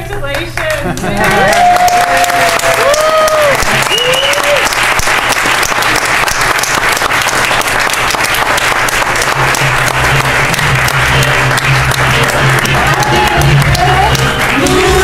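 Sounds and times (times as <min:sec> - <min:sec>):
crowd applauding: 0:00.3 - 0:15.0.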